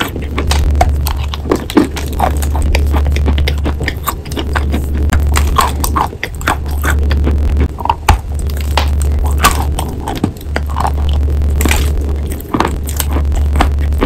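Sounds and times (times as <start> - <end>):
chalk crunching between teeth: 0.0 - 14.0
steady low hum: 0.0 - 14.0.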